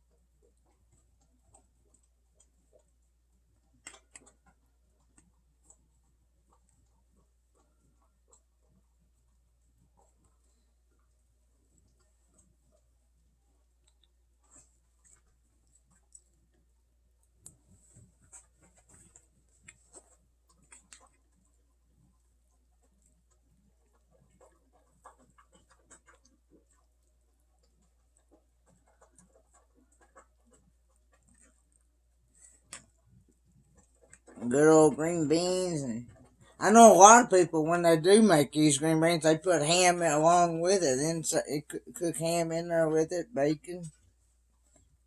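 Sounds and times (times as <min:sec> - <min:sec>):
faint ticks and clicks: 0:00.0 - 0:45.0.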